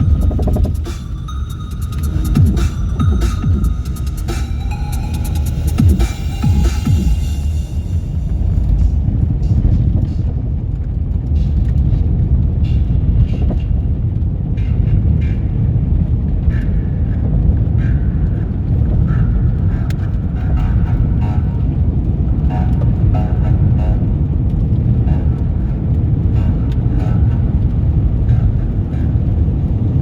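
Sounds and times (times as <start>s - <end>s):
tyres and engine rumbling: 0.0s - 30.0s.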